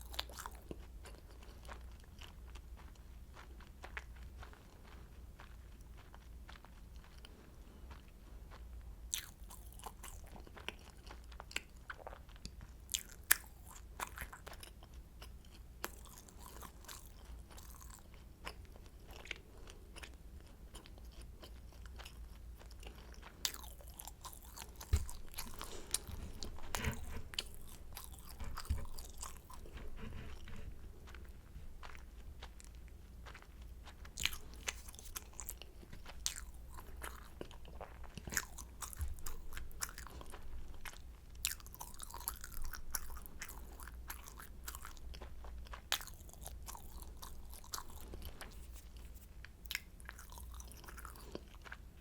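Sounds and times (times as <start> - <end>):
crunchy pastry chewing: 0.0 - 52.0
faint low hum: 0.0 - 52.0.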